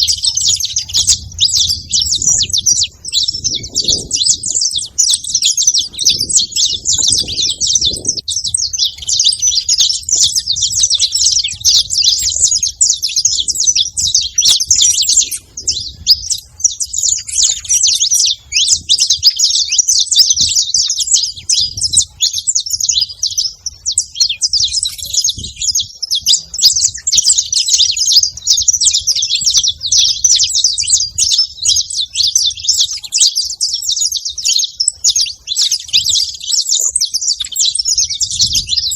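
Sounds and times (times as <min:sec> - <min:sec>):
finches chirping and twittering: 0:00.0 - 0:38.9.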